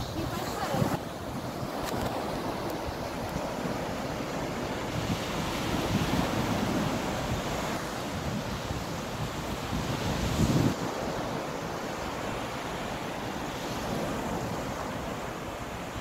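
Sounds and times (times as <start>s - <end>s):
waves breaking on a beach: 0.0s - 16.0s
wind rumbling on microphone: 0.0s - 16.0s.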